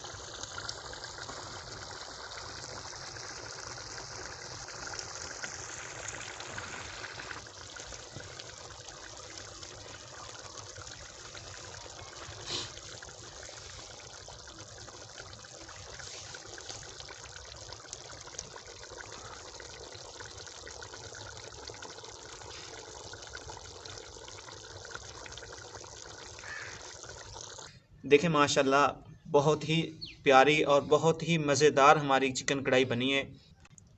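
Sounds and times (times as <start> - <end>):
curry bubbling in a pot: 0.0 - 27.7.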